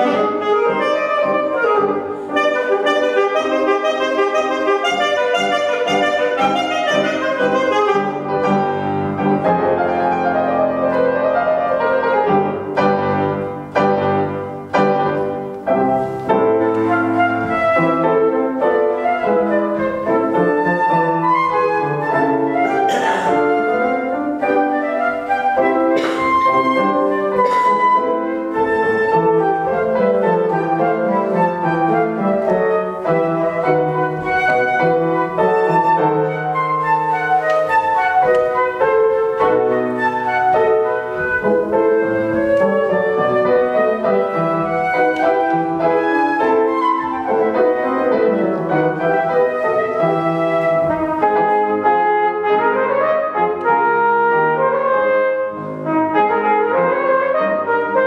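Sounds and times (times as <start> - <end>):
flute melody: 0.0 - 58.0
piano accompaniment: 0.0 - 58.0.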